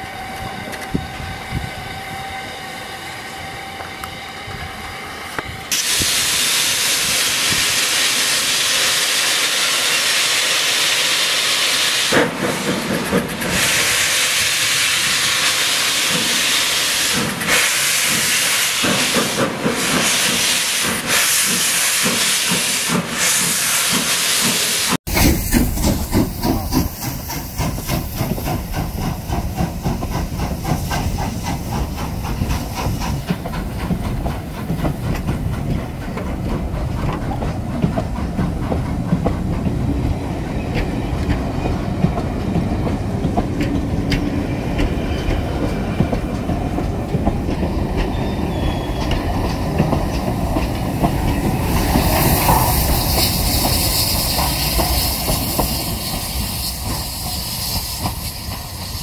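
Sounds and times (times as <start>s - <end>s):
steam locomotive exhaust beats: 0.0s - 59.0s
steam hissing from cylinders: 4.0s - 37.0s, 44.8s - 59.0s.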